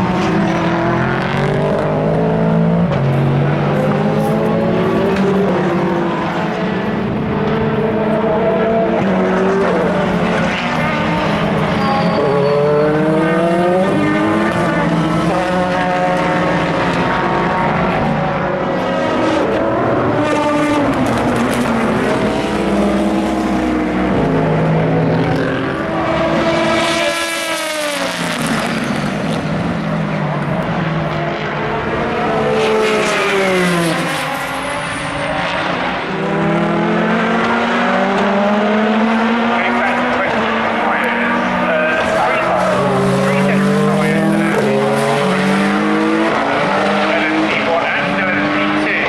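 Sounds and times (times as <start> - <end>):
loud car passing by: 0.0 - 49.0
race car engines: 0.0 - 49.0.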